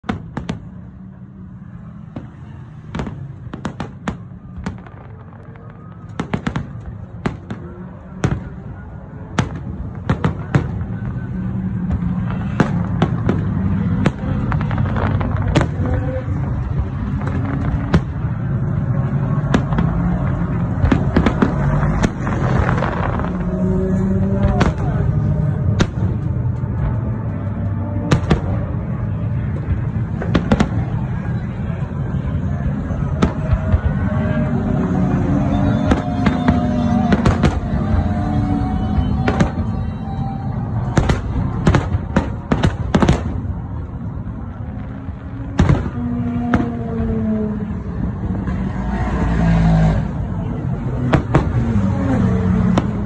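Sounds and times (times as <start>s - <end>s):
fireworks bangs and pops: 0.0s - 1.2s, 2.0s - 47.6s, 50.8s - 53.0s
low rumble: 0.0s - 51.6s.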